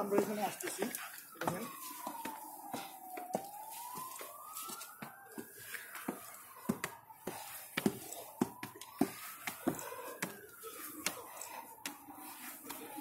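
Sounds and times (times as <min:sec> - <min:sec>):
footsteps on stone stairs: 0:01.4 - 0:13.0.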